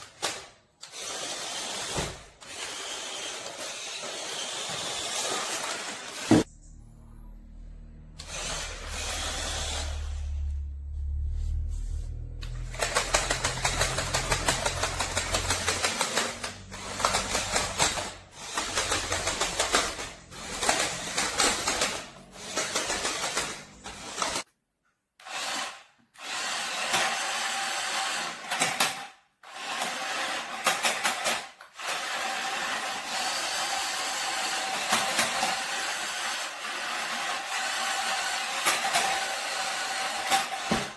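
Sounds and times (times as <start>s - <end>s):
toy truck motors whirring: 0.0s - 6.5s, 8.2s - 10.6s, 12.4s - 24.5s, 25.2s - 40.9s.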